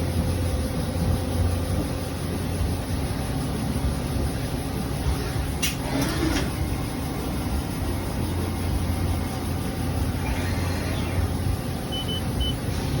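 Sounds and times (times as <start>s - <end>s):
faint machine whine: 0.0s - 13.0s
machining center humming: 0.0s - 13.0s.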